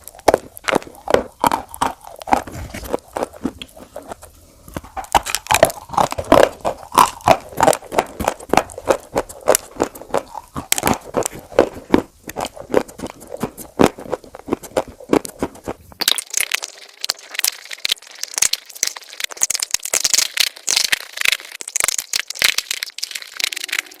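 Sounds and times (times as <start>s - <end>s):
crunchy food chewing: 0.0s - 24.0s.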